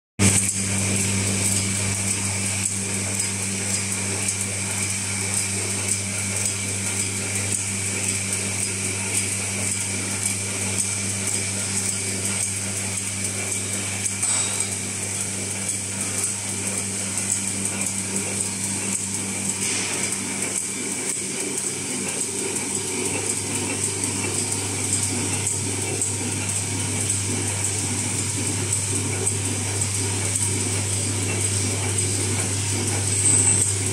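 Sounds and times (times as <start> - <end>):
packaging machine humming: 0.2 - 33.9.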